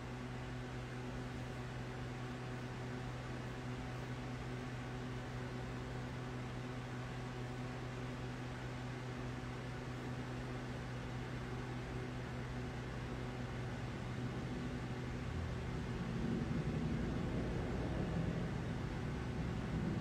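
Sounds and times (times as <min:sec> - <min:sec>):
low hum with hiss: 0:00.0 - 0:20.0.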